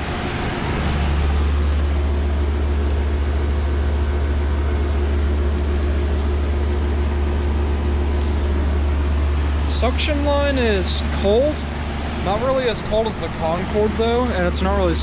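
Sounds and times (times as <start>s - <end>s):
compressor humming: 0.0s - 15.0s
condenser fan rushing air: 0.0s - 15.0s.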